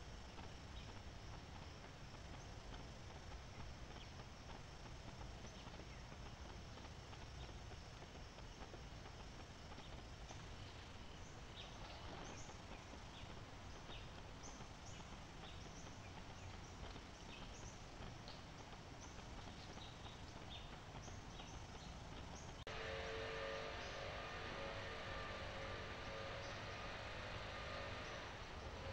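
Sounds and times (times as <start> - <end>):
loud steady noise with hum tones: 0.0 - 28.9
steady hiss: 0.0 - 28.9.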